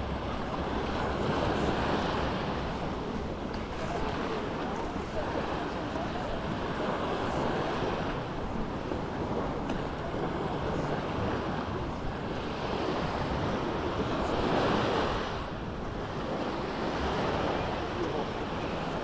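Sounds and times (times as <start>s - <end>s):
waves washing up on sand: 0.0s - 19.0s
wind buffeting microphone: 0.0s - 19.0s.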